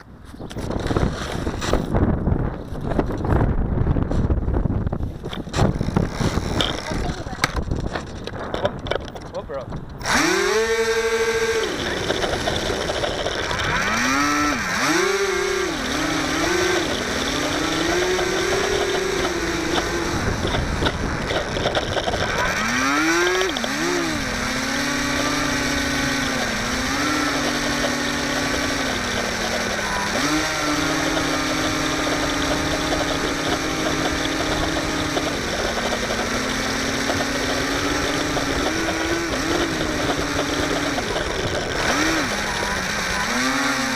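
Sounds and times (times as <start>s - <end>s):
wind on microphone: 0.0s - 43.9s
model plane motor whining: 5.4s - 7.8s, 10.0s - 43.9s.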